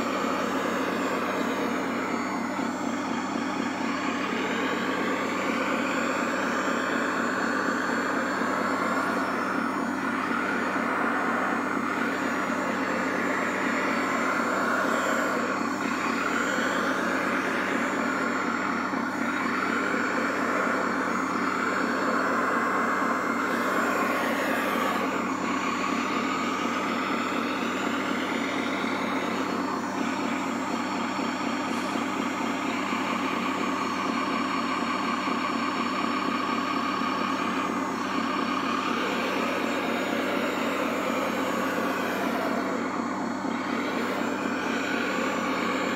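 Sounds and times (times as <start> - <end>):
electric motor whines: 0.0 - 45.9
steady engine-like hum: 0.0 - 45.9.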